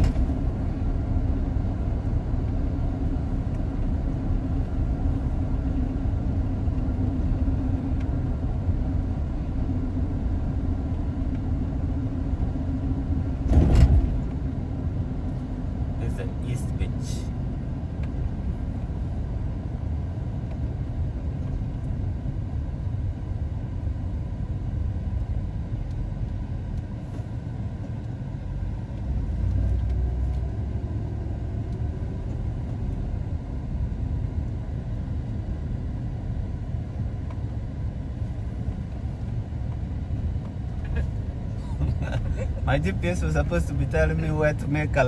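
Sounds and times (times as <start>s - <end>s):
car tyres and engine rumble: 0.0s - 45.0s.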